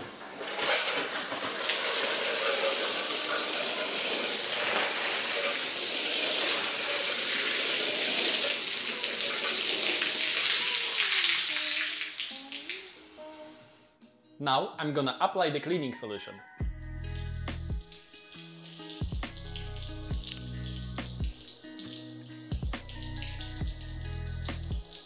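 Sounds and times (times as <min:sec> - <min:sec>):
water spray hissing on floor: 0:00.4 - 0:13.7, 0:17.8 - 0:25.0.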